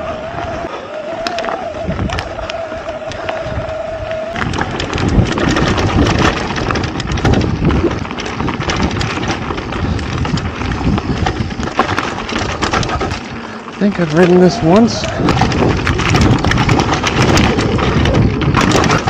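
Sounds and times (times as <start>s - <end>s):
bike rattling over bumps: 0.0s - 19.0s
bike tyre noise on dirt: 0.0s - 19.0s.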